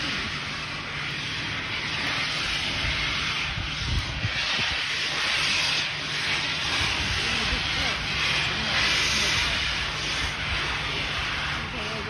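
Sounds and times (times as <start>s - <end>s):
steam hissing: 0.0s - 12.0s
steam locomotive chuffs: 0.0s - 12.0s.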